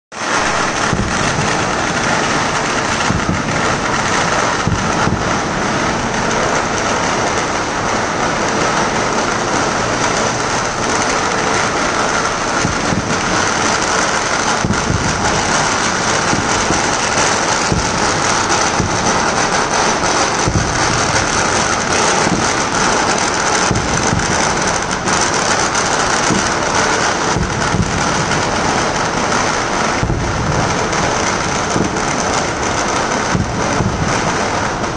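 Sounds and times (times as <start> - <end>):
aerial fireworks booming: 0.1 - 34.9
firecrackers crackling: 0.1 - 34.9.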